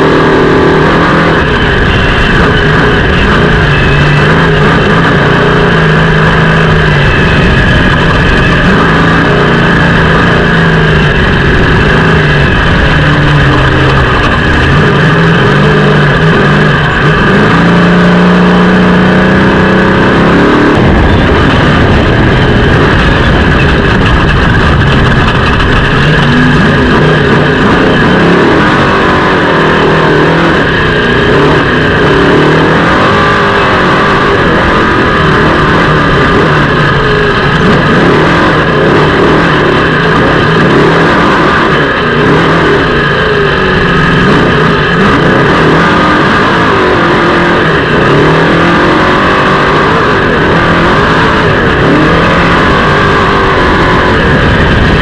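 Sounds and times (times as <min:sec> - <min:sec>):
race vehicle engine revving: 0:00.0 - 0:55.0.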